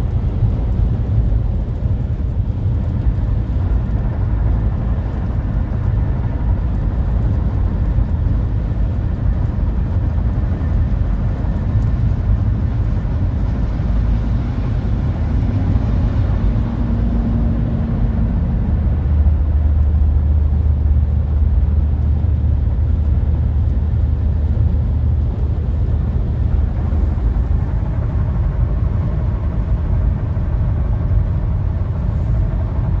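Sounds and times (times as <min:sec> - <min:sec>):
road rumble inside car: 0:00.0 - 0:33.0.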